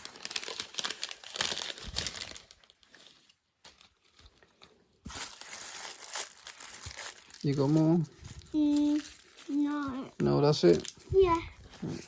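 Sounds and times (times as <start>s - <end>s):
wrappers crumpling: 0.0s - 12.0s.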